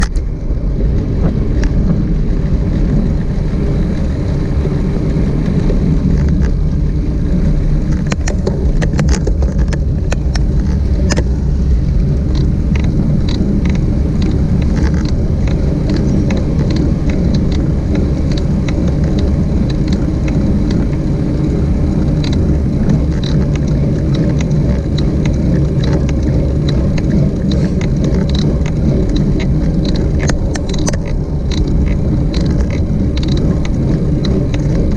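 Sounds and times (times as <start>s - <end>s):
road noise: 0.0s - 34.9s
small rattles and clicks: 0.0s - 34.9s
wind rushing: 0.0s - 34.9s.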